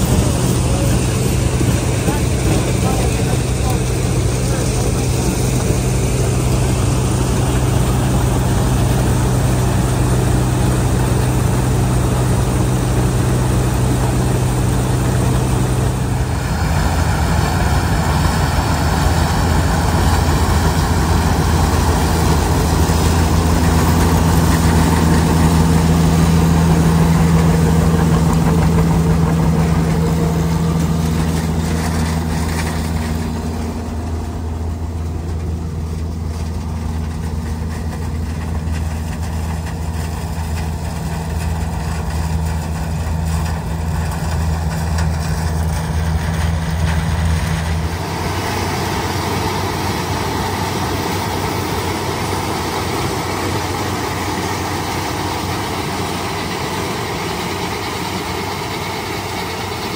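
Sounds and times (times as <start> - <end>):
machinery working: 0.0 - 59.9
tractor engines running: 0.0 - 59.9.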